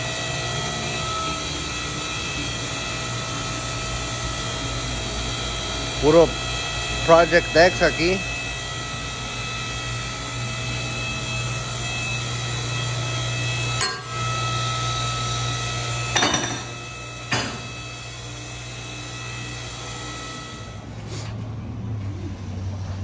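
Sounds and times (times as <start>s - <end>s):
machine hum with high whines: 0.0s - 23.0s.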